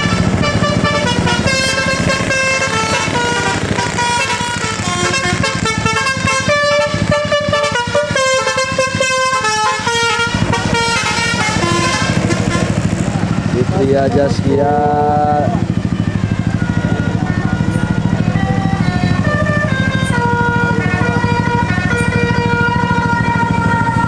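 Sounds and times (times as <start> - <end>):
bus engine running: 0.0 - 24.0
bus horn playing melody: 0.0 - 24.0.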